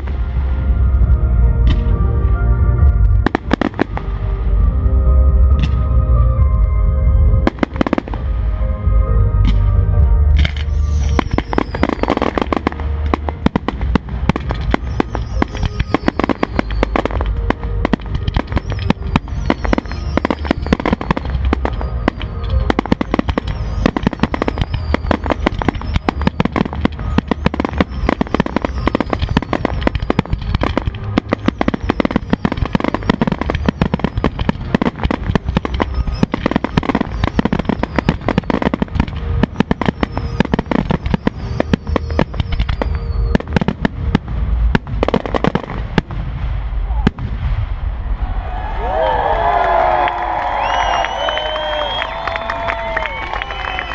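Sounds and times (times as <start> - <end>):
fireworks bangs and crackles: 0.0 - 8.6, 9.4 - 49.1, 50.5 - 53.9
music playing: 0.0 - 47.4, 48.8 - 53.9
low rumble: 0.0 - 53.9.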